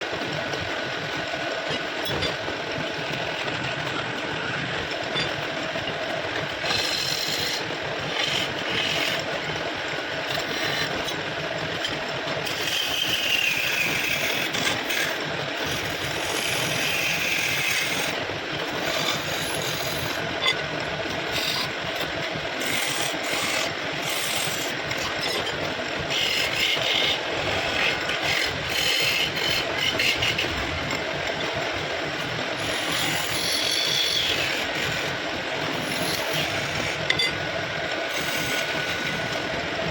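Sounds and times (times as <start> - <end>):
power tool shaping wood: 4.3 - 39.9.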